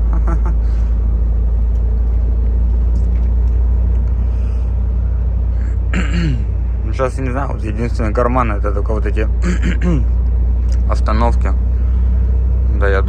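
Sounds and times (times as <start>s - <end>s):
truck engine drone from cab: 0.0s - 13.0s.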